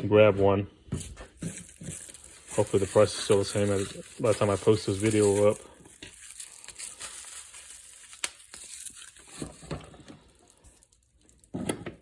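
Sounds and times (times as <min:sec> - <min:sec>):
packaging crinkling and rustling: 0:01.0 - 0:12.0.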